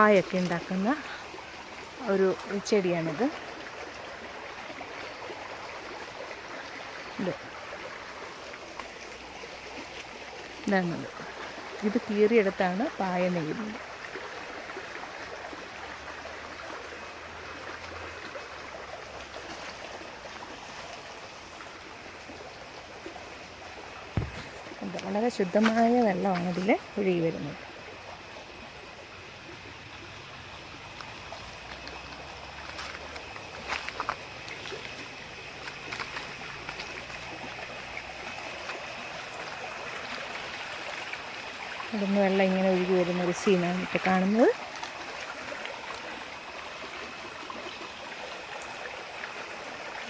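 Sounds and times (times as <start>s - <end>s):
stream running over rocks: 0.0s - 50.0s
water splashes: 0.0s - 50.0s.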